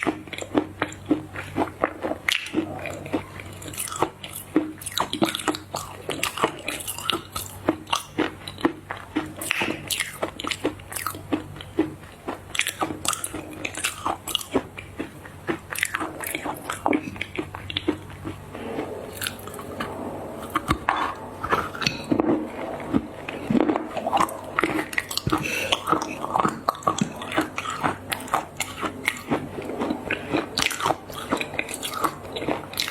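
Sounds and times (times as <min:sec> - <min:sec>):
crunchy chewing: 0:00.0 - 0:32.9
soft chewing: 0:00.0 - 0:32.9.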